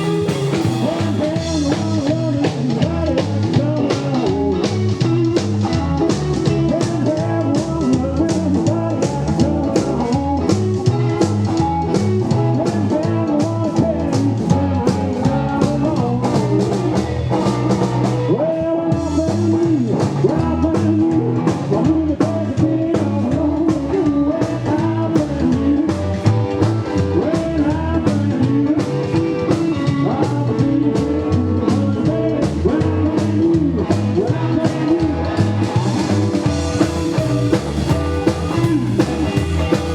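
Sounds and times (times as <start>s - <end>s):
drum kit beat: 0.0s - 18.3s, 19.0s - 39.9s
electric lead guitar: 0.0s - 39.9s
upright double bass: 0.0s - 39.9s.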